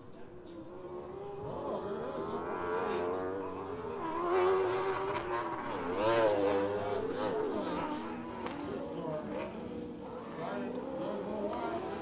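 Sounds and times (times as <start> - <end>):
race engines revving: 0.0 - 12.0.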